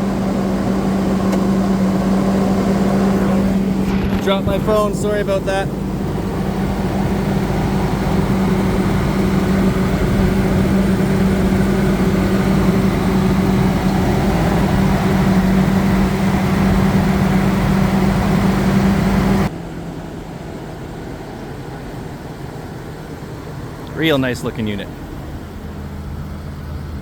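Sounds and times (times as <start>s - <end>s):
engine idling low hum: 0.0s - 27.0s.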